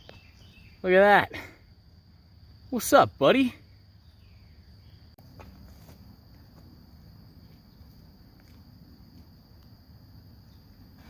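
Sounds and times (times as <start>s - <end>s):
insect drone: 0.0s - 11.0s.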